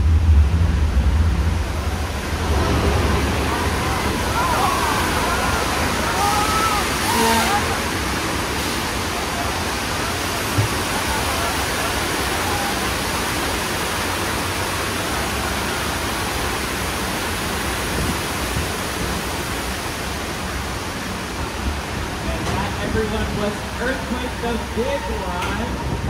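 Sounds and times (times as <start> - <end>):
water rushing: 0.0 - 26.0.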